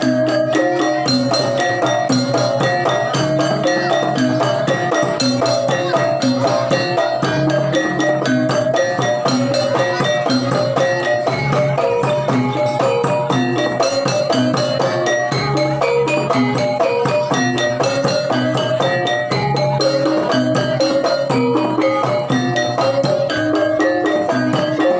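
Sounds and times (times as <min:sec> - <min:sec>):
gamelan music: 0:00.0 - 0:24.9.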